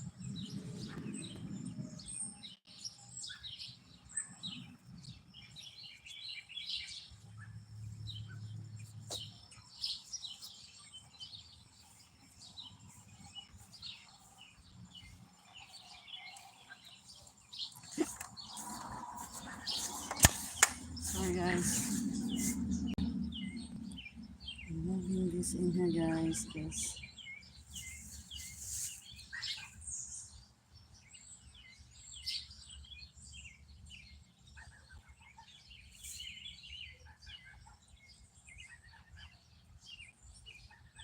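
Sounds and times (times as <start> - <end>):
birds chirping and calling: 0.2 - 41.0.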